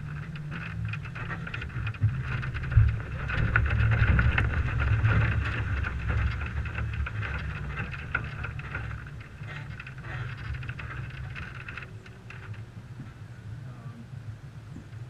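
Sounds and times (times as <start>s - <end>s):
scattered ticks: 0.0s - 12.7s
low engine rumble: 0.0s - 15.0s
wind noise on microphone: 0.0s - 15.0s.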